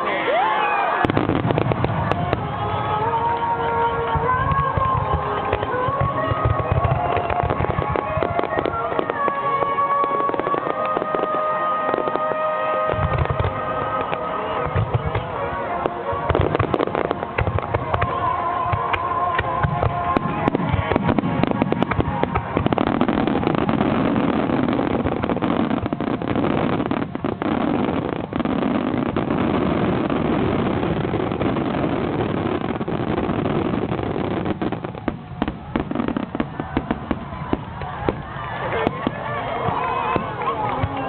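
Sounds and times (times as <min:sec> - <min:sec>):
fireworks bursting: 0:00.9 - 0:41.0.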